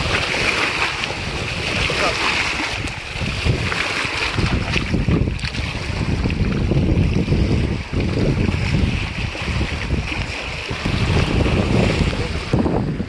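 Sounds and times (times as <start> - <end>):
water on shore: 0.0 - 13.0
wind buffeting microphone: 0.0 - 13.0.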